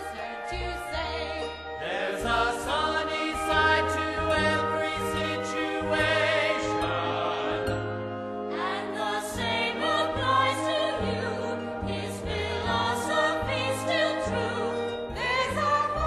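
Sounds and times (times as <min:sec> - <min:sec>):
choir singing sustained notes: 0:00.0 - 0:16.0
orchestral accompaniment: 0:00.0 - 0:16.0.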